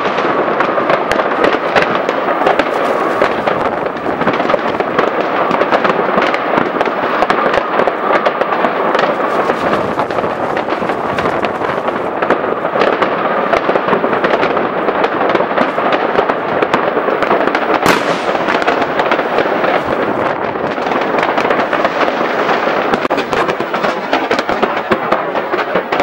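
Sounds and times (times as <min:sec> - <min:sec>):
fireworks crackling and banging: 0:00.0 - 0:26.0
sharp firework crack: 0:00.0 - 0:26.0.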